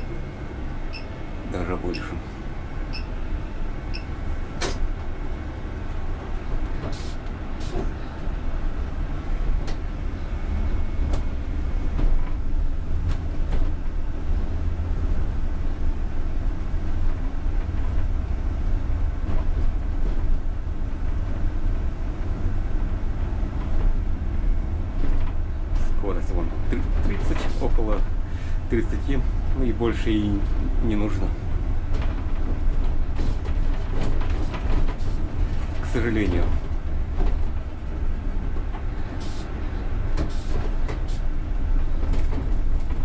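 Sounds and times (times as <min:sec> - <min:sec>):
trolleybus rumbling on road: 0:00.0 - 0:43.0.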